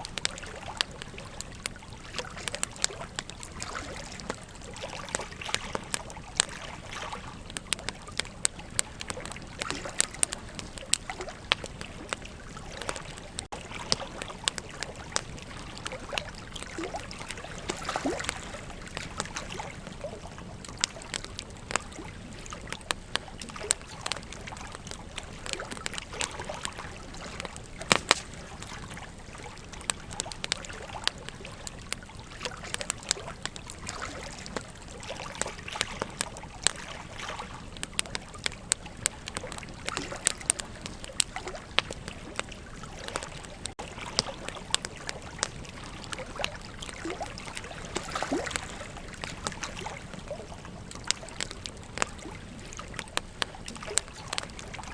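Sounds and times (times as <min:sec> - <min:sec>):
flowing river water: 0:00.0 - 0:54.9
wood fire crackling and popping: 0:00.0 - 0:54.9.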